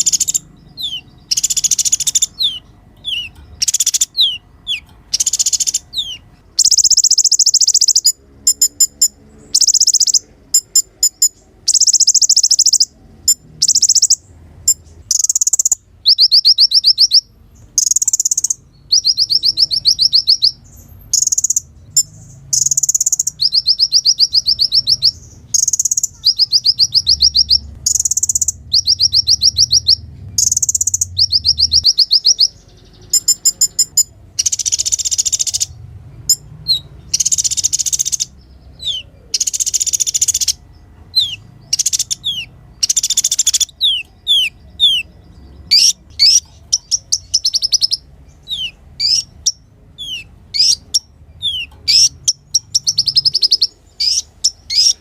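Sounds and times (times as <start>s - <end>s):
sunbird singing trilled song: 0.0s - 55.0s.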